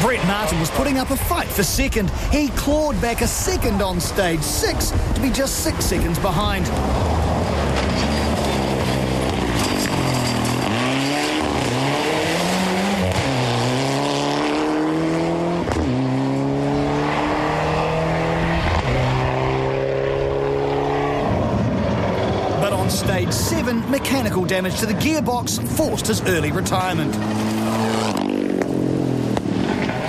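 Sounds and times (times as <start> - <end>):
rally car engine at full throttle: 0.0 - 30.0.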